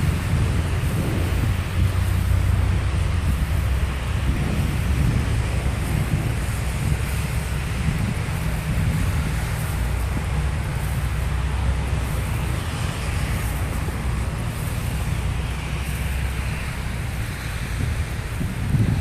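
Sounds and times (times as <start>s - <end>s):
blizzard wind buffeting microphone: 0.0s - 19.0s.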